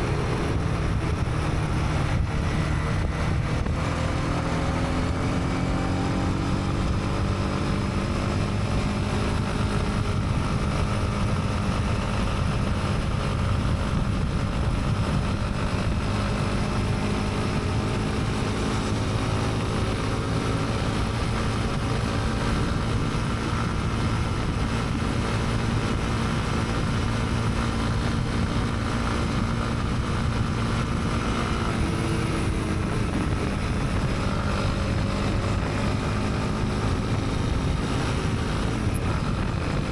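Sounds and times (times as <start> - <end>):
motorcycle engine running: 0.0 - 39.9
road rumble: 0.0 - 39.9
wind: 0.0 - 39.9.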